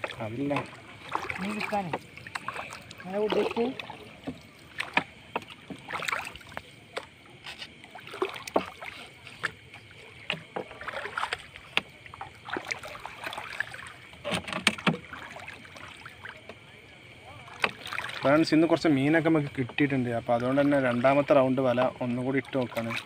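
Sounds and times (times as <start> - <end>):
water splashing and dripping: 0.0 - 23.0.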